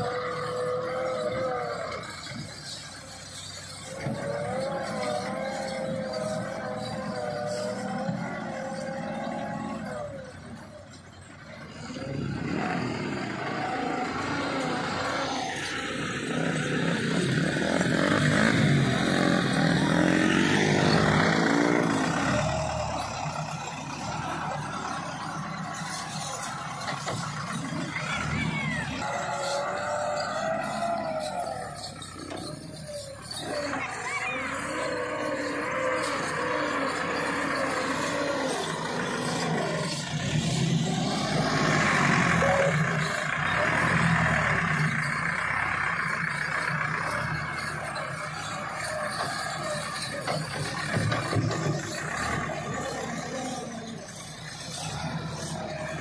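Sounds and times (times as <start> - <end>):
small motorcycle engine revving: 0.0 - 10.4, 11.8 - 56.0
tractor engines running: 0.0 - 56.0.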